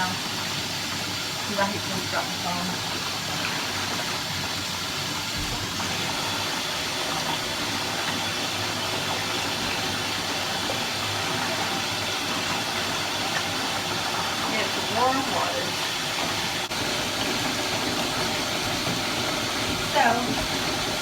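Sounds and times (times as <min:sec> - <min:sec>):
water pouring into bathtub: 0:00.0 - 0:21.0.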